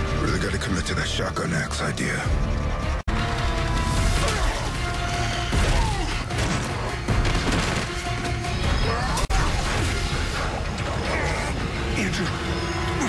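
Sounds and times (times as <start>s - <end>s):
tense score music: 0.0s - 13.0s.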